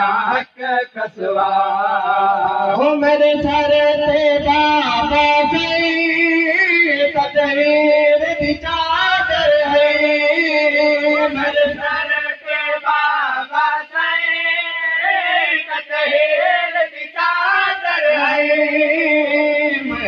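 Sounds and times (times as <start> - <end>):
mourning lament sung in high voice: 0.0 - 20.0.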